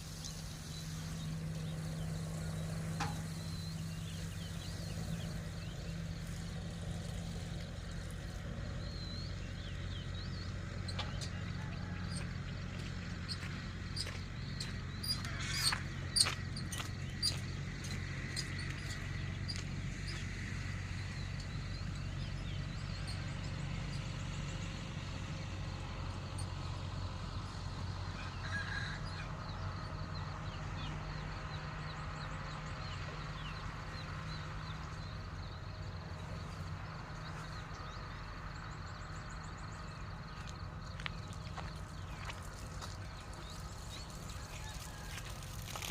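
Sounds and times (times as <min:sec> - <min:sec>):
low machine hum: 0:00.0 - 0:45.9.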